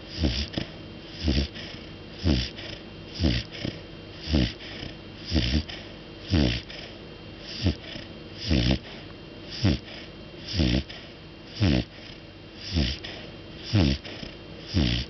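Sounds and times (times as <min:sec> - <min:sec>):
dog snoring: 0:00.0 - 0:15.0.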